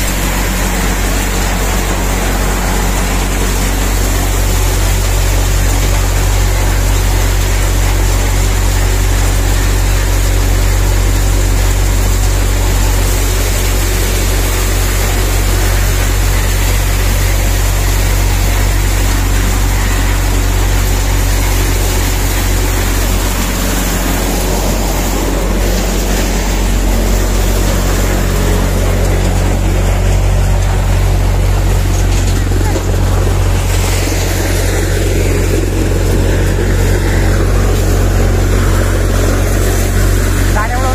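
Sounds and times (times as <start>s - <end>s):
thresher machine drone: 0.0s - 40.9s.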